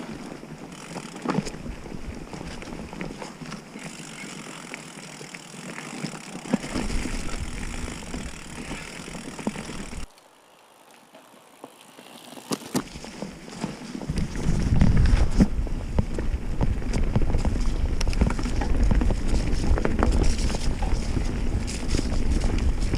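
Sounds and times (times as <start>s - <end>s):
bike tyres rolling on trail: 0.0s - 22.9s
bike knocks and rattles: 0.7s - 10.1s, 11.6s - 22.9s.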